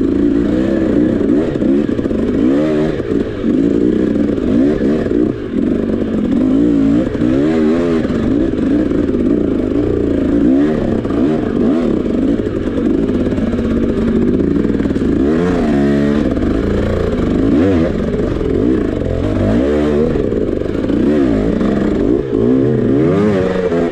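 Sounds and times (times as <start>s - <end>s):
clatter: 0.0s - 23.9s
dirt bike engine revving: 0.0s - 23.9s.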